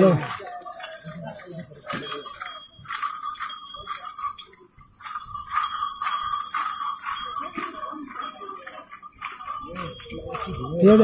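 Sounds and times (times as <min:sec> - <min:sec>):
small metal bells jingling: 0:00.0 - 0:11.0.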